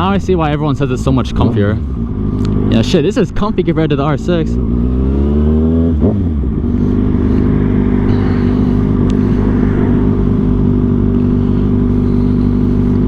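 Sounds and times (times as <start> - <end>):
loud motorcycle engine running: 0.0 - 13.0.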